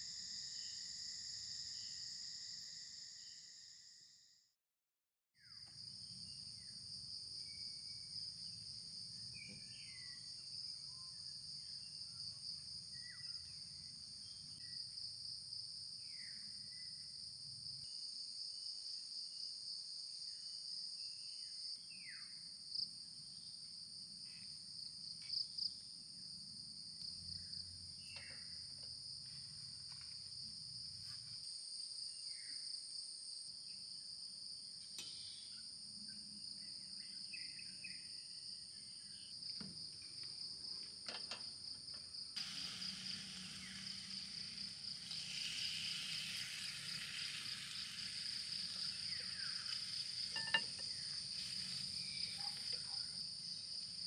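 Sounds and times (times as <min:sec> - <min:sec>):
insect chorus: 0:00.0 - 0:04.4, 0:05.4 - 0:54.0.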